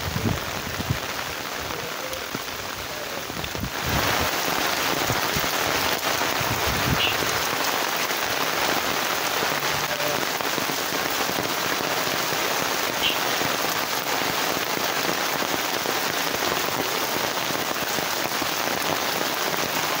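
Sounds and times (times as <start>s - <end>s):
heavy rain on road and foliage: 0.0s - 20.0s.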